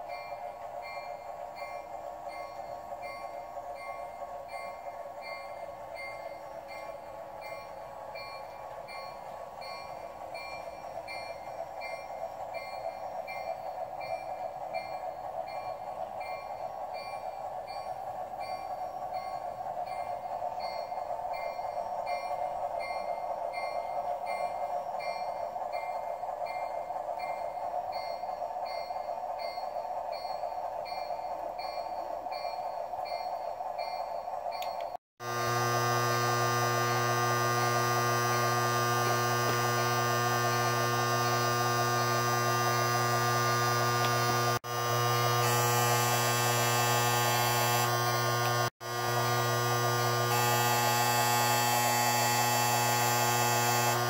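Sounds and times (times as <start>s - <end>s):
locomotive bell ringing: 0.0s - 54.0s
model train running: 0.0s - 54.0s.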